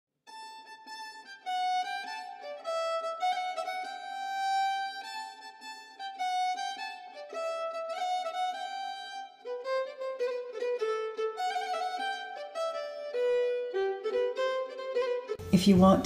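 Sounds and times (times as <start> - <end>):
instrumental music with held notes: 0.2 - 16.0.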